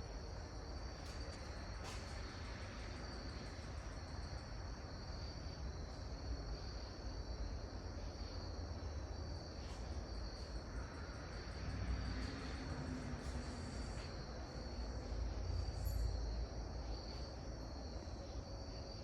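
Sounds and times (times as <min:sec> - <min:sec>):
constant low rumble: 0:00.0 - 0:19.0
high-pitched insect trill: 0:00.0 - 0:19.0.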